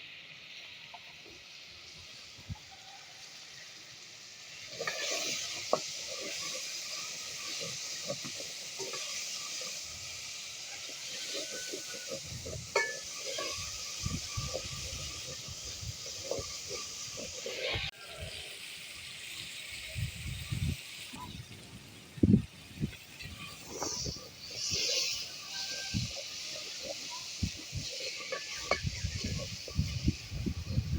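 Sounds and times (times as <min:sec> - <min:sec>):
food sizzling in a pan: 0:00.0 - 0:30.9.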